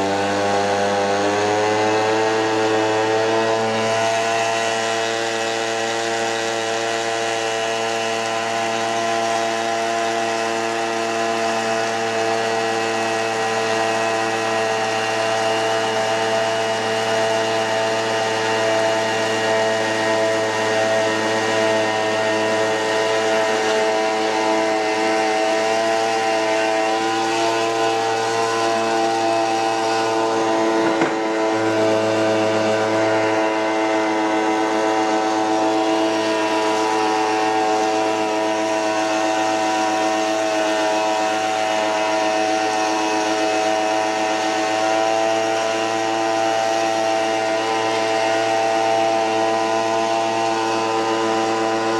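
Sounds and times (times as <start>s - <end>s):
small boat motor running: 0.0s - 51.9s.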